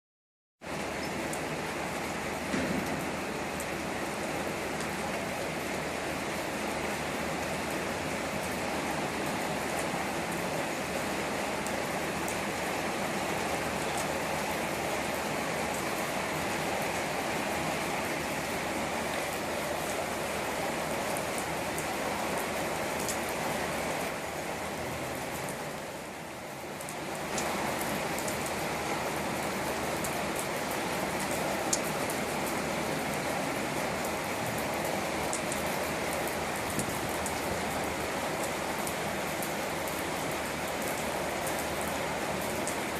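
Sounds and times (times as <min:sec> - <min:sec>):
raindrops ticking on surface: 0:00.6 - 0:17.7, 0:18.4 - 0:23.4, 0:24.1 - 0:42.9
steady rain falling: 0:00.6 - 0:42.9.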